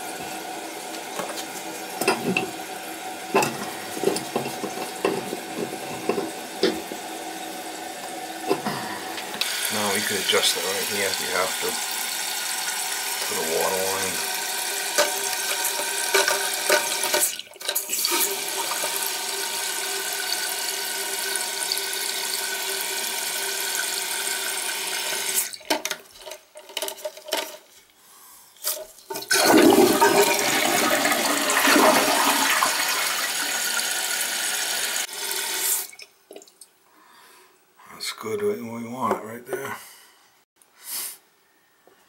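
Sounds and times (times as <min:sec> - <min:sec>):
water filling toilet tank: 0:00.0 - 0:26.4, 0:29.1 - 0:36.5.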